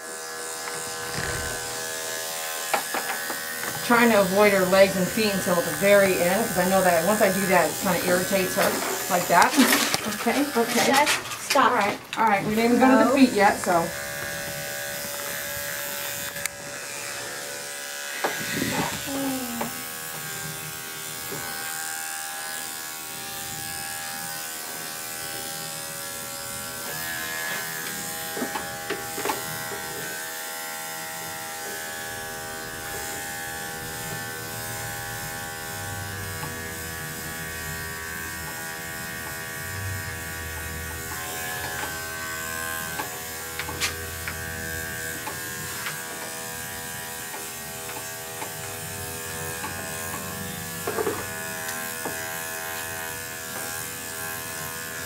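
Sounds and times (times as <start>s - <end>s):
electric pet clipper running: 0.0s - 55.0s.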